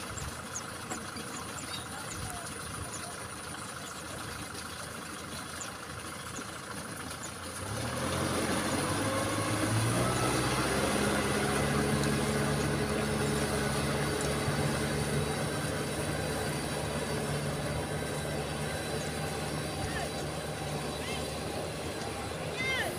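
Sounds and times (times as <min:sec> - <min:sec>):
rotary tiller in mud: 0:00.0 - 0:22.9
tractor diesel engine: 0:00.0 - 0:22.9.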